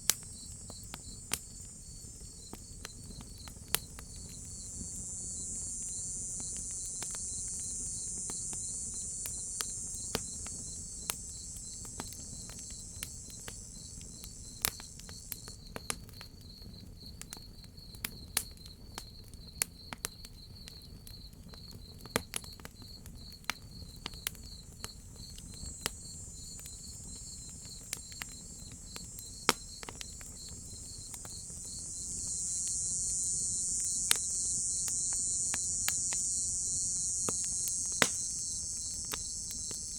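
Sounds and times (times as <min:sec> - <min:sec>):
wood fire crackling: 0:00.0 - 0:16.1, 0:23.4 - 0:39.9
cicadas hissing: 0:00.0 - 0:17.1, 0:23.6 - 0:39.9
crickets chirping: 0:00.0 - 0:39.9.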